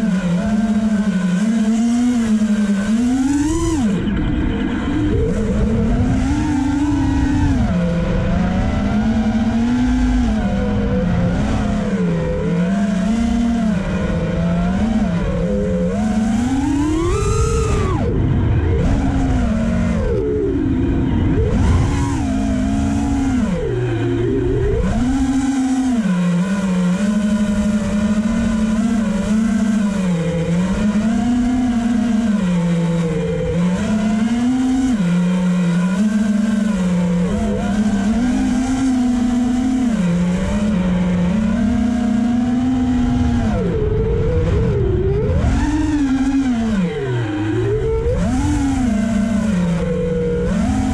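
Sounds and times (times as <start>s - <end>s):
drone motors and propellers whining: 0.0s - 50.9s.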